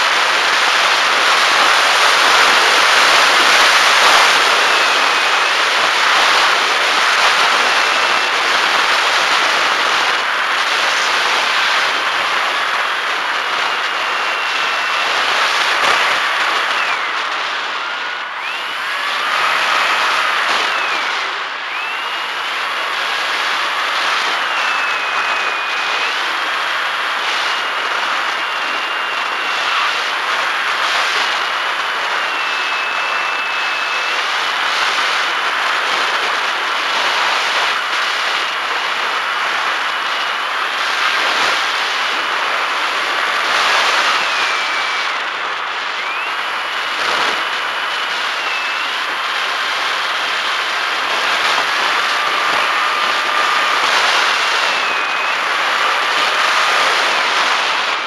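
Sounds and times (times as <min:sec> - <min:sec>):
wind rush: 0:00.0 - 0:58.0
electric motor propeller whine: 0:01.8 - 0:35.4, 0:37.0 - 0:58.0.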